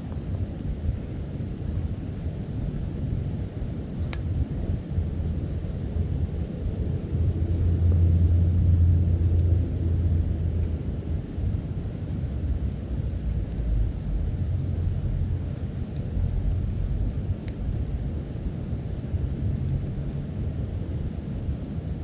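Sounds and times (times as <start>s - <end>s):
fire crackles: 0.0s - 22.0s
wood stove fire rumbling: 0.0s - 22.0s.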